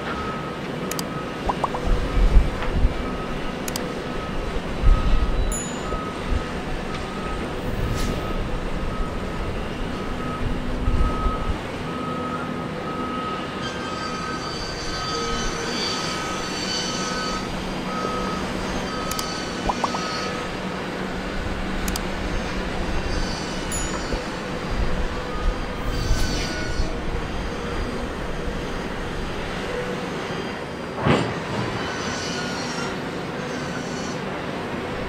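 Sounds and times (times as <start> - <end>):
reversing alarm beeping: 0.0 - 30.2
construction machinery running: 0.0 - 35.0.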